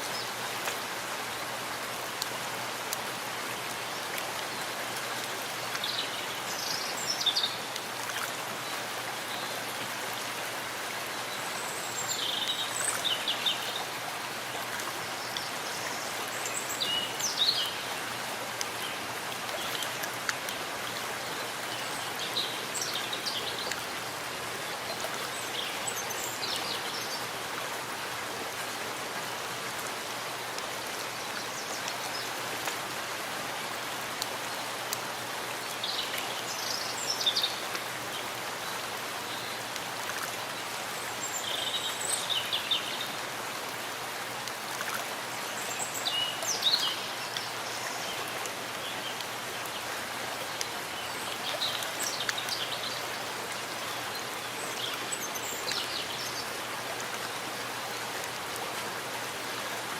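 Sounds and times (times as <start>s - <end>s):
rain falling in a forest: 0.0s - 59.9s.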